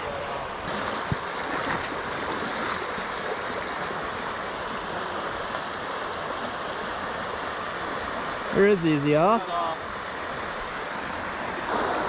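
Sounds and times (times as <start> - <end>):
river rushing over rocks: 0.1 - 12.0.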